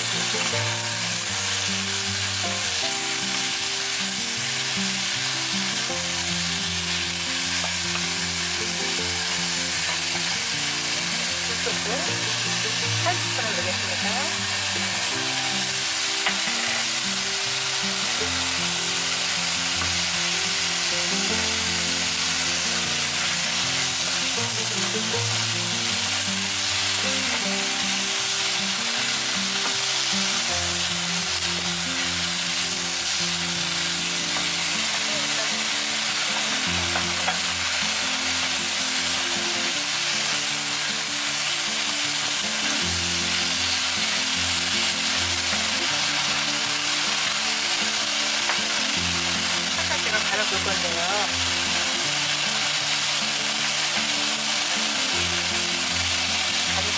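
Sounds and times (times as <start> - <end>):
quiet background music: 0.0 - 56.9
vegetables sizzling in oil: 0.0 - 56.9.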